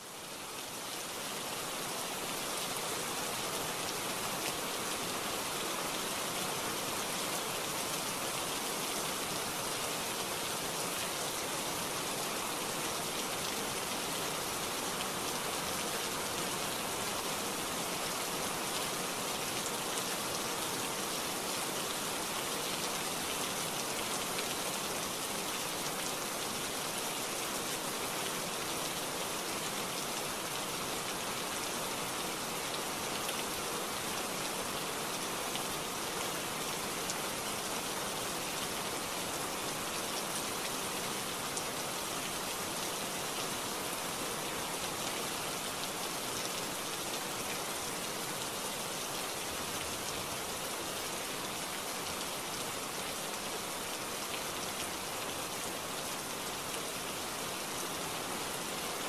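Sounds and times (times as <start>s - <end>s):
heavy rain on leaves: 0.0s - 59.0s.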